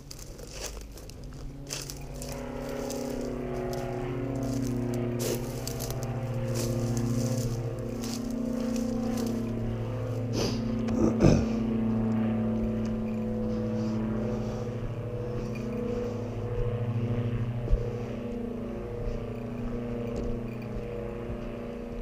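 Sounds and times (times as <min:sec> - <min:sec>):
motor hum: 0:00.0 - 0:22.0.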